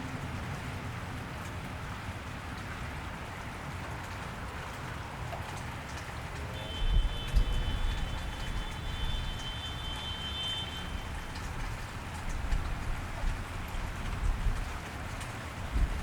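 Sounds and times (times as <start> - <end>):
rain on a wet street: 0.0 - 16.0.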